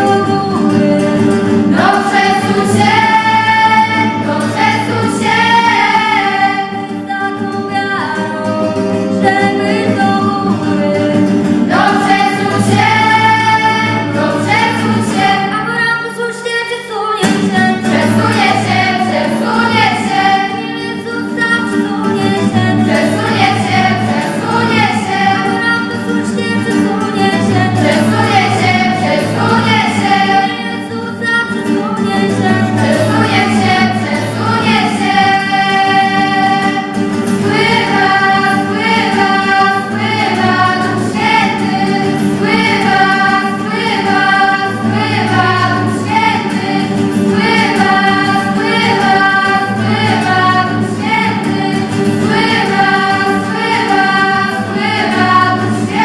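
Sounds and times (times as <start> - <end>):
acoustic guitar strumming: 0.0 - 56.0
girls singing together: 0.0 - 56.0.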